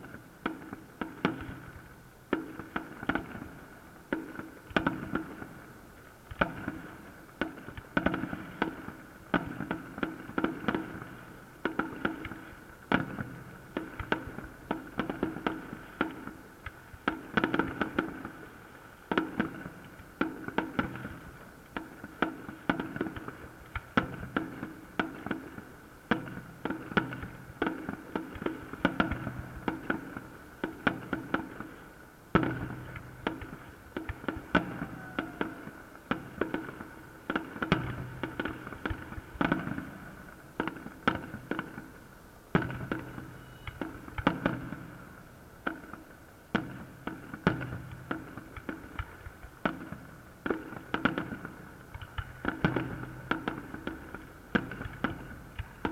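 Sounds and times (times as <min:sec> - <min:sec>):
fireworks banging: 0:00.0 - 0:55.9.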